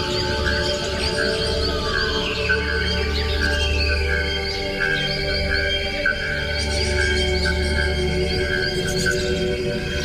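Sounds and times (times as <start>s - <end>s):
ambient electronic music: 0.0s - 10.0s.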